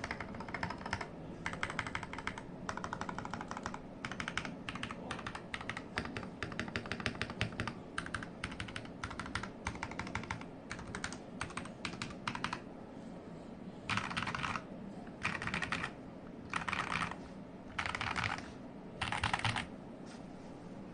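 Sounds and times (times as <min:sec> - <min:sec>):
mechanical keyboard typing: 0:00.0 - 0:12.6, 0:13.9 - 0:14.6, 0:15.2 - 0:18.4, 0:19.0 - 0:19.7.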